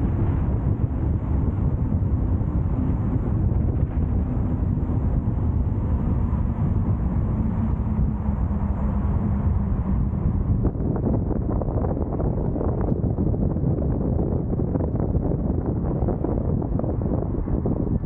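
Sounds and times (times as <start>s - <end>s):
faint engine hum: 0.0s - 18.0s
road and wind noise: 0.0s - 18.0s.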